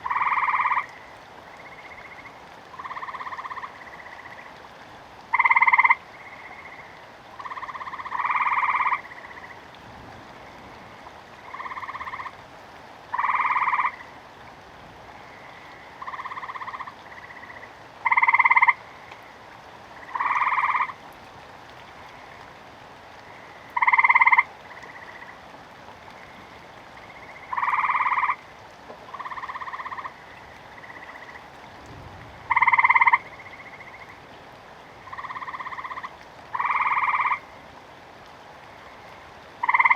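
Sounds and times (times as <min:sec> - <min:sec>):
frogs croaking: 0:00.0 - 0:14.4, 0:15.0 - 0:39.9
rain hiss: 0:00.0 - 0:39.9.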